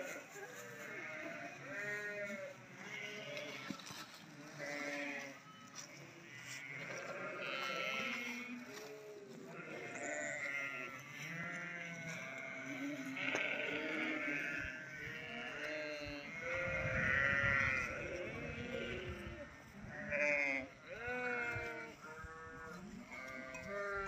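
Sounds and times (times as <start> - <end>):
sheep bleating: 0.0 - 3.8, 4.4 - 24.0.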